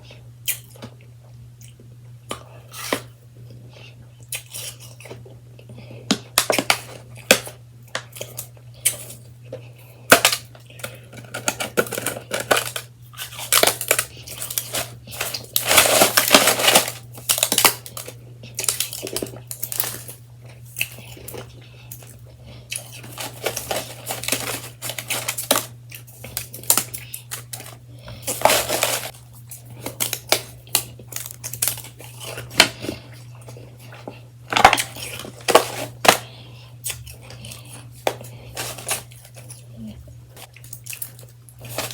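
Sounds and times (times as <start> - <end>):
chewing shaved ice: 0.0 - 41.9.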